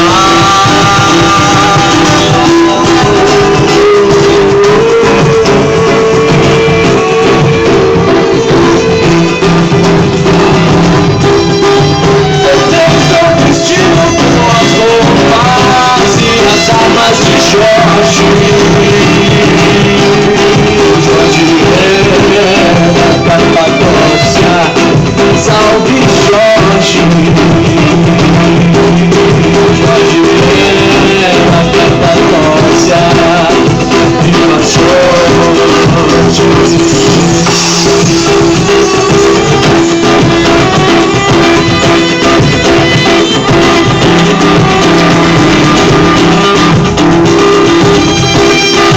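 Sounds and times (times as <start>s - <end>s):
street music led by guitar: 0.0s - 48.9s.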